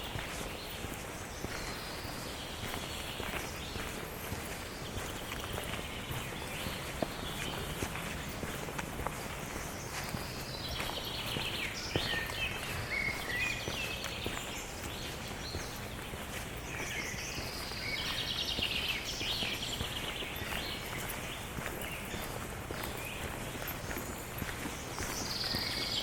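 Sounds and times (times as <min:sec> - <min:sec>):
outdoor background noise: 0:00.0 - 0:26.0
songbird singing trills: 0:00.0 - 0:26.0.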